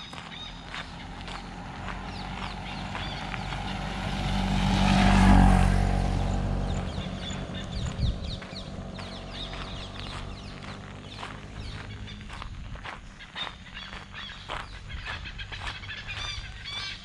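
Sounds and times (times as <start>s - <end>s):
auto-rickshaw engine passing by: 0.0s - 17.0s
birds chirping: 0.0s - 17.0s.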